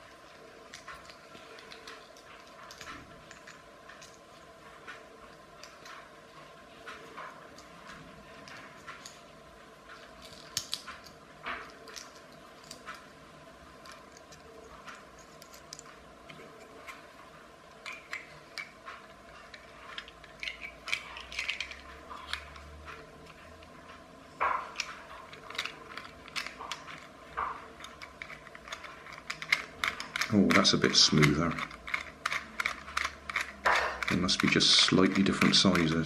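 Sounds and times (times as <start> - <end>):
plastic parts clicking and scraping: 0.0 - 6.1, 6.8 - 9.3, 9.9 - 13.2, 13.8 - 17.2, 17.8 - 36.0.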